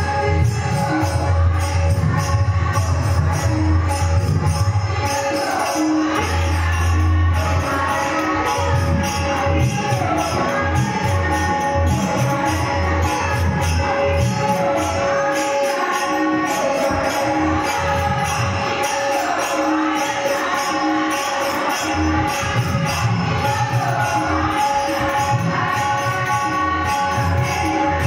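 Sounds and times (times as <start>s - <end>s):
jingling percussion: 0.0s - 28.0s
tabla beats: 0.0s - 28.0s.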